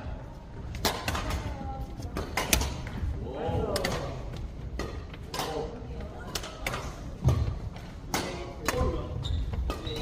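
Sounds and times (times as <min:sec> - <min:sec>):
rackets striking shuttlecock: 0:00.7 - 0:03.0, 0:03.7 - 0:10.0.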